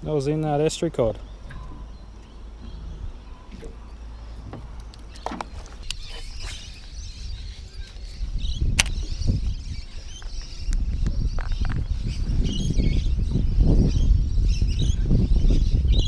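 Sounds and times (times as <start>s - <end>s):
wind buffeting microphone: 1.2s - 16.0s.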